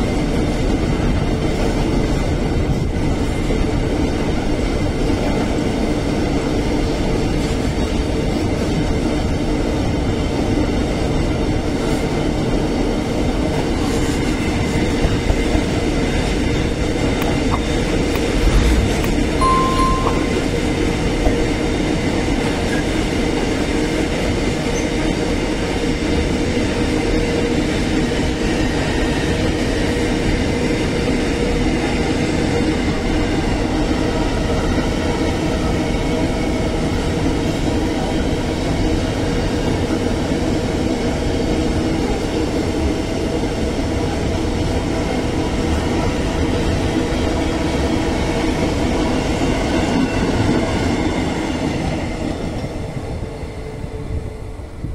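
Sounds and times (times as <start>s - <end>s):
train wheels rolling on rails: 0.0s - 54.9s.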